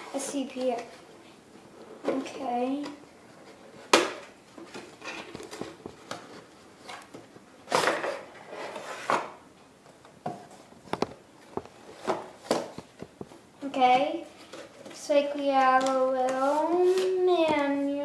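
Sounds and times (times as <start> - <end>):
cardboard and plastic packaging rustling: 0.3 - 18.0.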